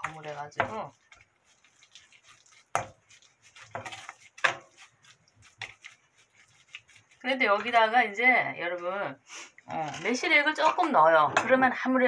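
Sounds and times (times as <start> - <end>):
spoon scraping steel bowl: 0.0 - 8.0, 9.6 - 11.6.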